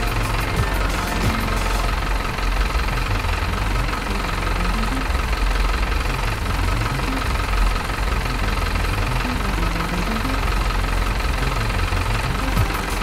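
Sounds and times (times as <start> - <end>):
engine-like rumble: 0.0 - 13.0
high motor whine: 0.0 - 13.0.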